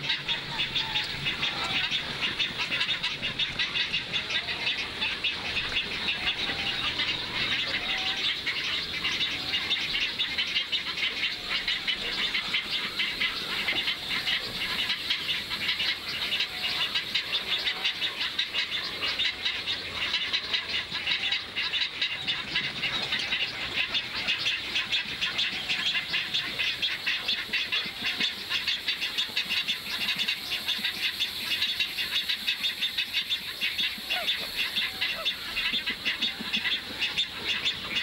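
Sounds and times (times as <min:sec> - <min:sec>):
high-pitched animal chorus: 0:00.0 - 0:38.0.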